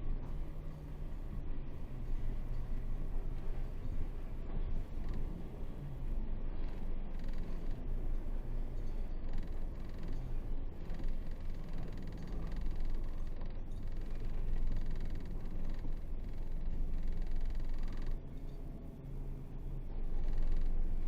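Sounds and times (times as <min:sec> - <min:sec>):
truck diesel engine rumble: 0:00.0 - 0:21.0.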